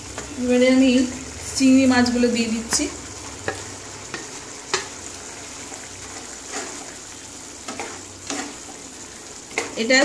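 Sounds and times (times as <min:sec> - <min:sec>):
curry sizzling in wok: 0:00.0 - 0:10.0.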